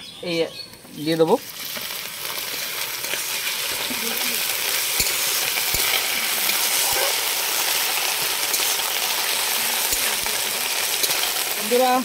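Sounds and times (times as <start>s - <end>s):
paste sizzling in hot oil: 1.4s - 12.0s.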